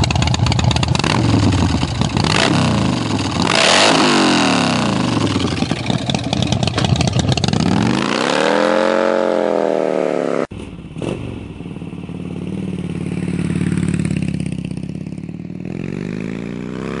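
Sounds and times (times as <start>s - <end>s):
motorcycle engine: 0.0s - 17.0s
motorcycle pulling away: 0.0s - 17.0s.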